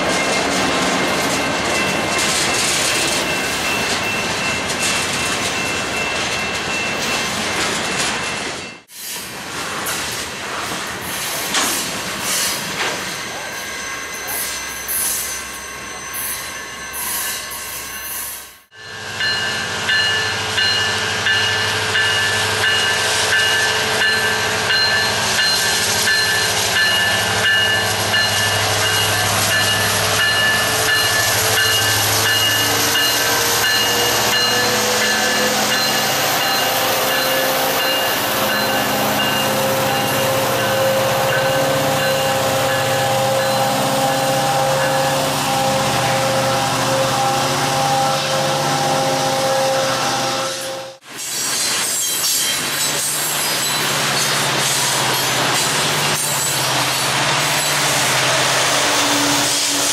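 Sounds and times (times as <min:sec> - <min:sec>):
diesel locomotive drone: 0:00.0 - 0:51.2, 0:52.6 - 0:59.9
freight train rolling past: 0:00.0 - 0:59.9.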